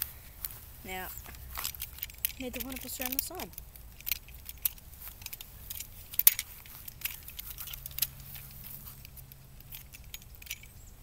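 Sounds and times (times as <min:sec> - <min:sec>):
toy revolver light rattles: 0:01.2 - 0:11.0
toy revolver metallic clicks: 0:01.2 - 0:11.0.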